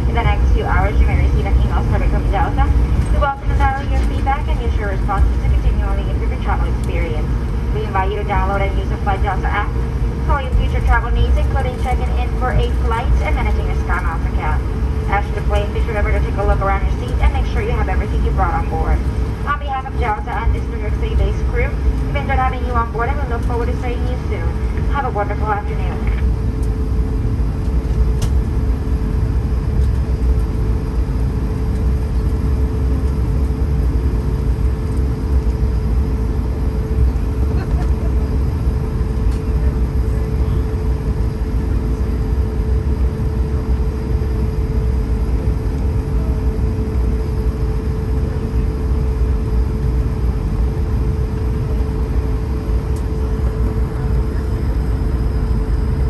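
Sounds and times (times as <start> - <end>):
jet engines droning at low power: 0.0 - 56.0.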